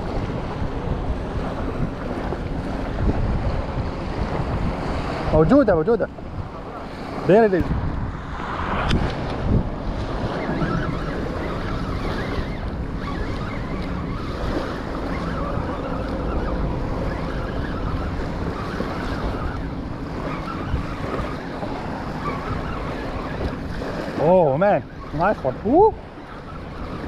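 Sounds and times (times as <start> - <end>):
small waves lapping on shore: 0.0 - 27.0
wind buffeting microphone: 0.0 - 27.0.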